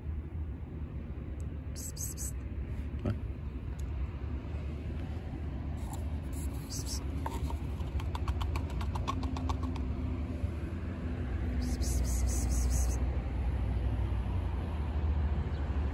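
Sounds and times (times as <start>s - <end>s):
low outdoor rumble: 0.0s - 15.9s.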